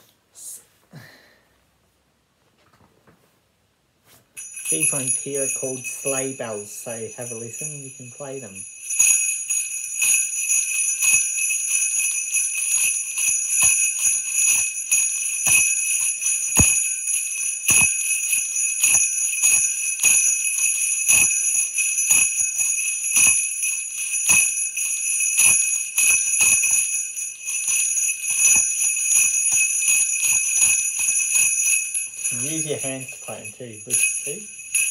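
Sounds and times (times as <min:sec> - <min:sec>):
sleigh bells jingling: 0:04.4 - 0:34.9.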